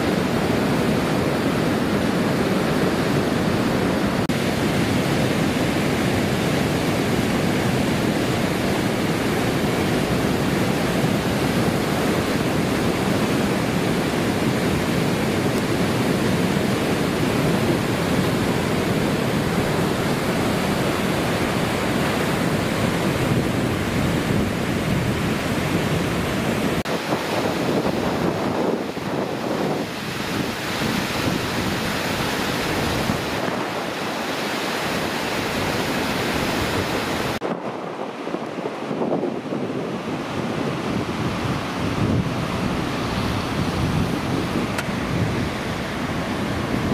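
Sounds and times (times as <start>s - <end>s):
river rushing in flood: 0.0s - 46.9s.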